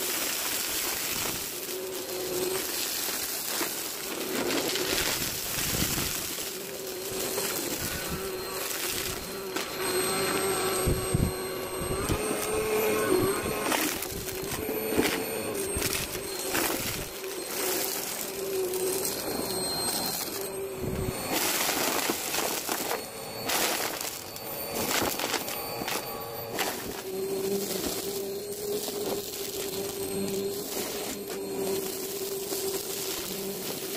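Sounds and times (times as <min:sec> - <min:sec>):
debris crackling in vacuum: 0:00.0 - 0:33.9
vacuum cleaner humming: 0:00.0 - 0:33.9.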